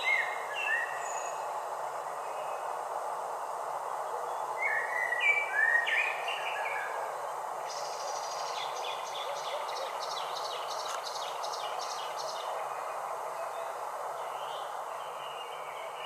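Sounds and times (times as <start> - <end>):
songbirds singing: 0.0 - 2.9, 3.5 - 16.0
steady background hiss: 0.0 - 16.0.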